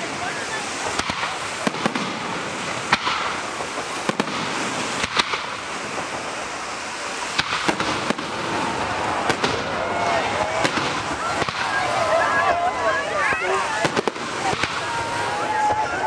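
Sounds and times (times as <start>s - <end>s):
firework shells bursting: 0.8s - 12.4s, 13.3s - 15.9s.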